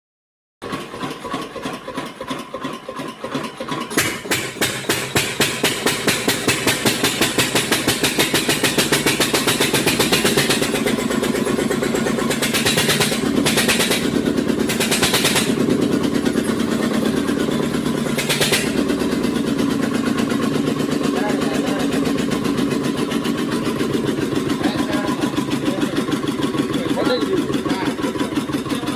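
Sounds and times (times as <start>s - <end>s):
engine running: 0.6s - 28.9s.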